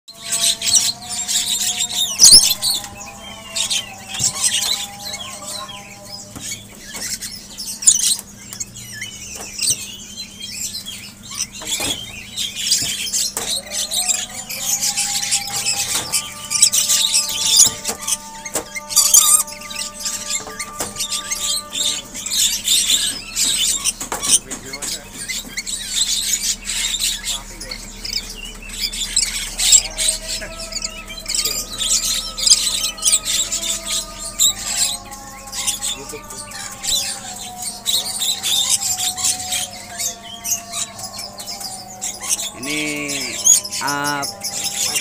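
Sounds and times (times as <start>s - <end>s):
lorikeets screeching: 0.1s - 45.0s.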